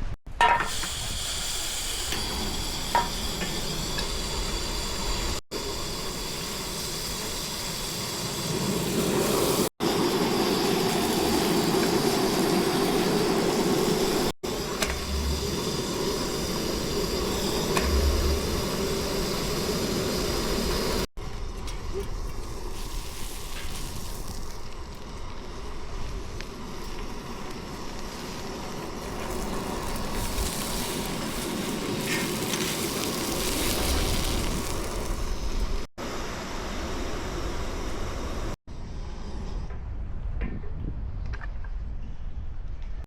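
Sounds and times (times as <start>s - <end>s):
gas stove burner hissing: 0.0s - 38.6s.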